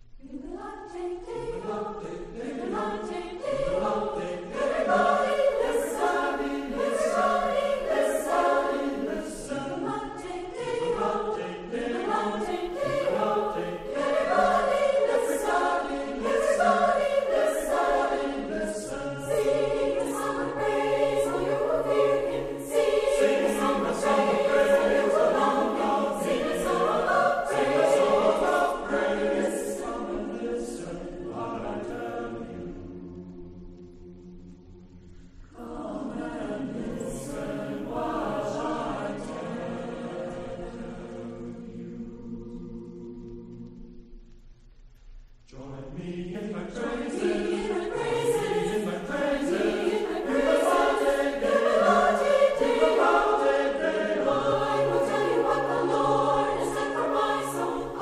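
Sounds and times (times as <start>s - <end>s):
choir singing: 0.2s - 44.4s, 45.4s - 58.0s.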